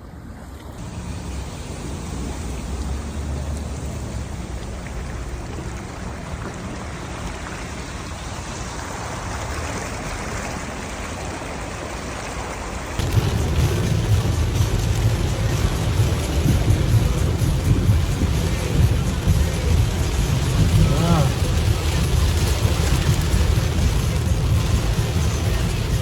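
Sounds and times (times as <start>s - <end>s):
heavy rain falling: 0.7s - 26.0s.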